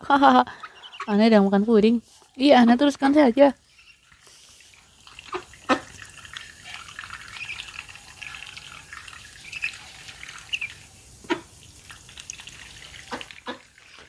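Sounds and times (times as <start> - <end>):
ducks slapping and slurping mash: 0.2 - 14.0.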